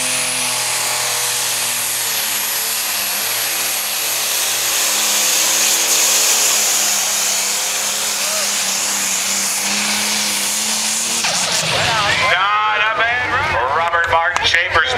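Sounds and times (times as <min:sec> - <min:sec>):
tractor engine running flat out: 0:00.0 - 0:14.9.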